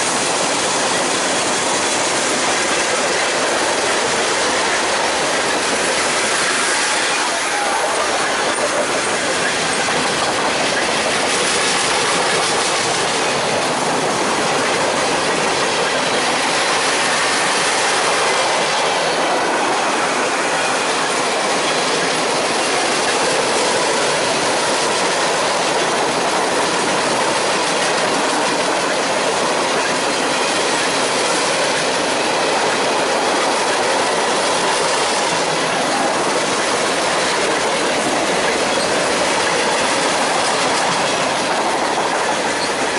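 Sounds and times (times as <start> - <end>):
railroad cars rolling past: 0.0 - 42.9.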